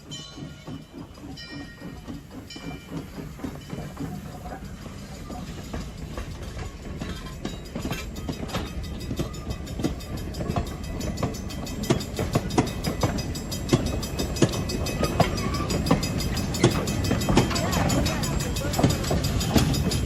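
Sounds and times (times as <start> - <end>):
train rumble: 0.0 - 20.0
train wheels clicking over rail joints: 0.0 - 20.0.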